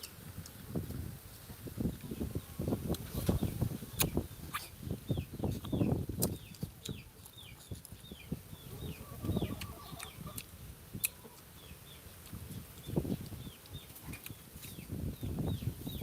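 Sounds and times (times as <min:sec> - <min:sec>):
bird peeping: 0:02.0 - 0:16.0.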